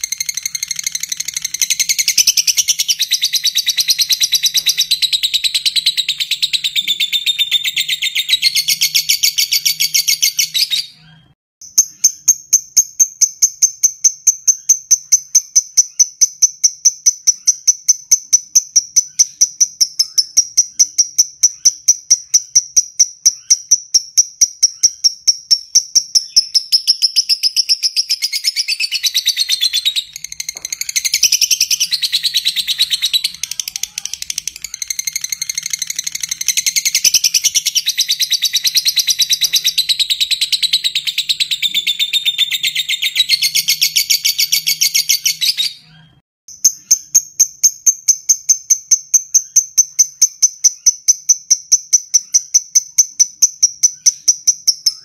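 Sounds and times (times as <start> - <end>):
lovebird chattering: 0.0 - 11.0, 11.7 - 55.0.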